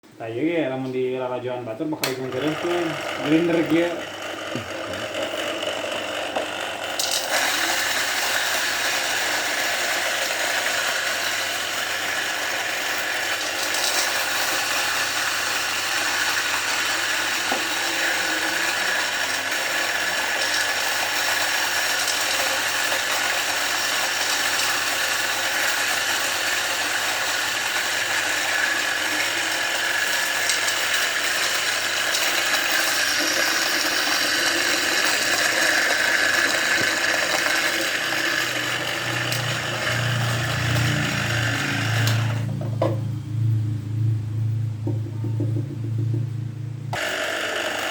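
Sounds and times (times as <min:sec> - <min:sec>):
coffee grinder motor whirring: 0:02.0 - 0:43.5, 0:46.9 - 0:47.9.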